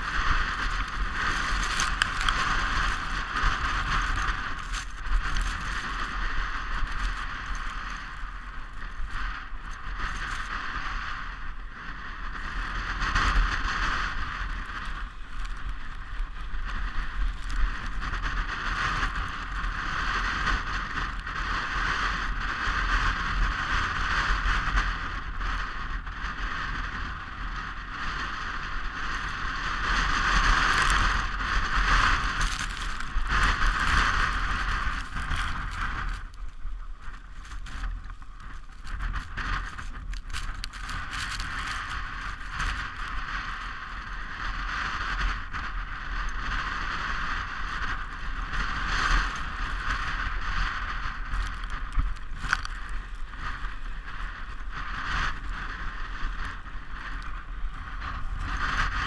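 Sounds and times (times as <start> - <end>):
toboggan runners scraping on snow: 0.0 - 59.0.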